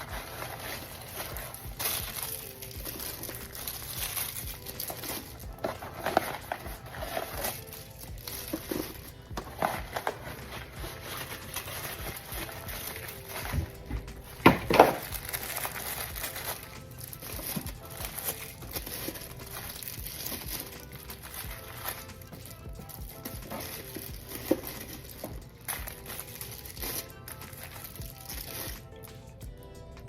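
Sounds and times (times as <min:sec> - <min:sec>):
items clunking: 0:00.0 - 0:28.8
snack packaging crinkling: 0:00.0 - 0:29.1
light background music: 0:00.0 - 0:30.0.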